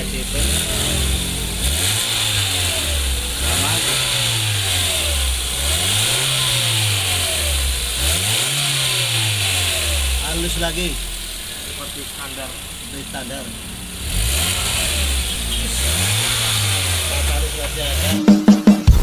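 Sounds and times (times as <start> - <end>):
car engine revving: 0.0 - 18.3.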